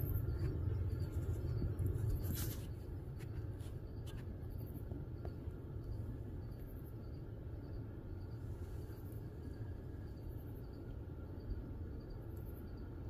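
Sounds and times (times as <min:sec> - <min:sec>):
insects chirping: 0:00.0 - 0:13.0
steady low rumble: 0:00.0 - 0:13.0.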